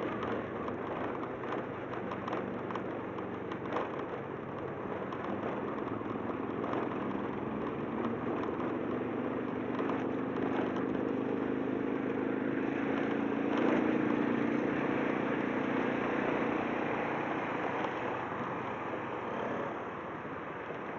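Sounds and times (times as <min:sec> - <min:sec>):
motorbike engine running: 0:00.0 - 0:18.7
road and wind noise: 0:00.0 - 0:20.9.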